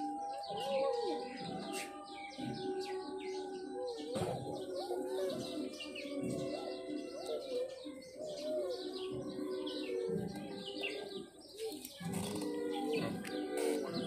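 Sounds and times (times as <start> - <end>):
music playing: 0.0 - 14.0
small birds chirping: 0.0 - 14.0.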